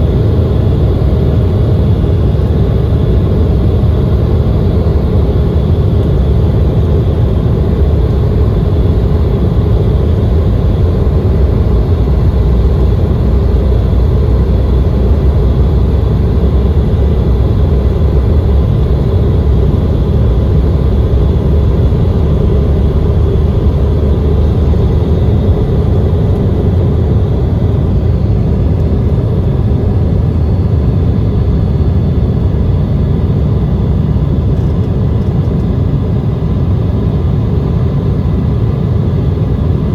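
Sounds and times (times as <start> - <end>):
jet engines roaring: 0.0 - 39.9.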